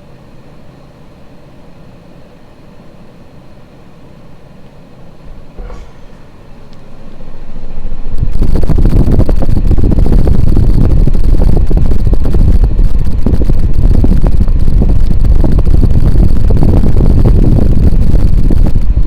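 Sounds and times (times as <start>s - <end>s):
fan wind buffeting microphone: 0.0s - 19.0s.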